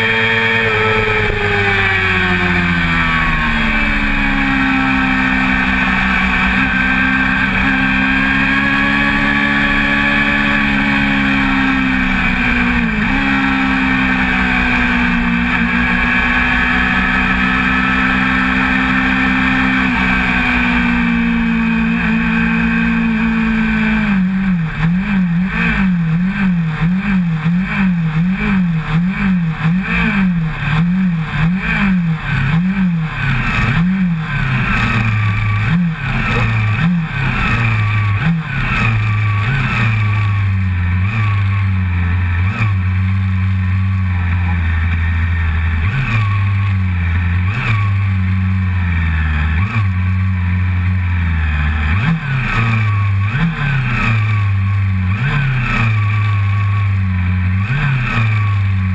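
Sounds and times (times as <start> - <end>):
motorcycle engine idling: 0.0 - 53.8
motorcycle engine revving: 0.0 - 58.9.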